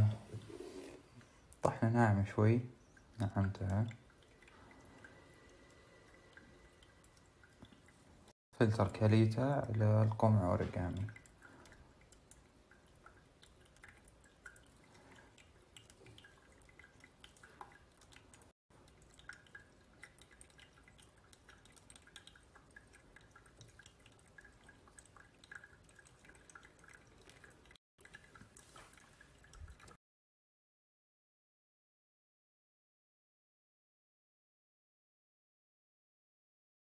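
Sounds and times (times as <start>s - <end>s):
water trickling onto coffee grounds: 0.0s - 30.0s.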